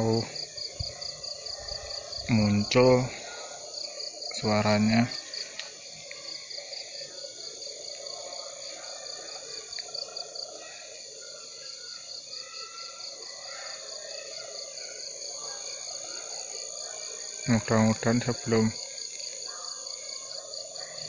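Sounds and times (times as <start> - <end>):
crickets chirping: 0.0 - 21.0
high insect drone: 0.0 - 21.0
low rough insect chorus: 0.0 - 21.0.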